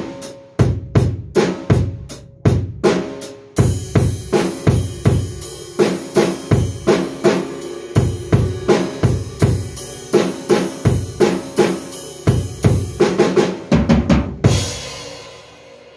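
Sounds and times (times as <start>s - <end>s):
snare drum: 0.0s - 14.9s.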